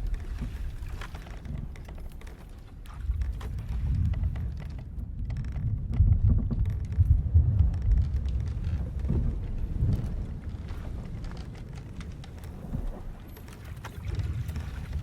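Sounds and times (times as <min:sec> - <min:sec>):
rumble of wind and sea: 0:00.0 - 0:15.0
ship timbers creaking: 0:00.0 - 0:15.0.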